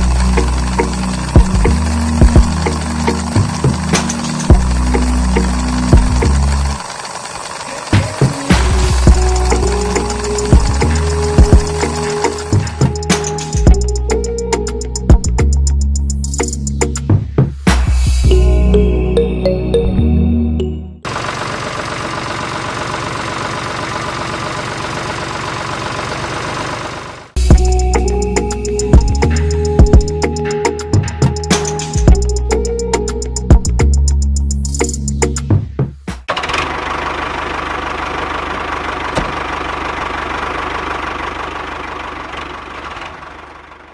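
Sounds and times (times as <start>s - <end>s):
small engine running: 0.0s - 15.8s, 21.0s - 34.2s, 36.3s - 43.9s.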